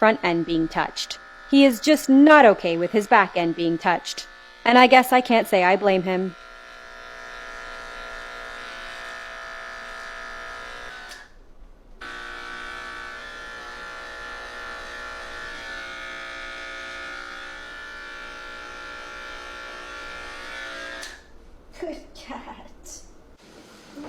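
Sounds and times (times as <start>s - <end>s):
electric clippers humming: 0.0s - 11.4s, 12.0s - 21.4s.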